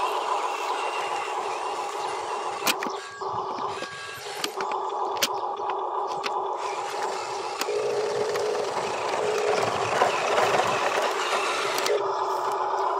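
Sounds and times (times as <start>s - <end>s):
electric motor and gearbox whining: 0.0s - 12.9s
sharp clicks: 2.1s - 12.8s.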